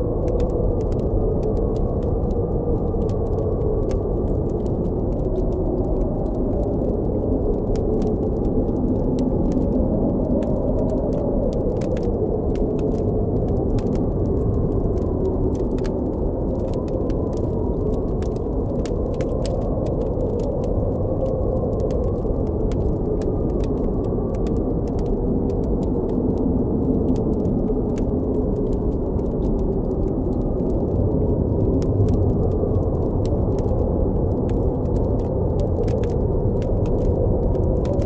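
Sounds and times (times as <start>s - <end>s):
blizzard wind howling: 0.0s - 38.0s
campfire crackling: 0.0s - 38.0s.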